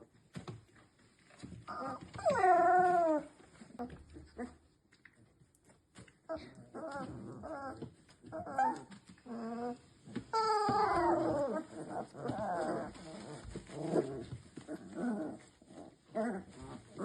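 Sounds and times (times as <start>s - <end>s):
puppies squealing and whining: 1.4s - 4.6s, 6.4s - 17.0s.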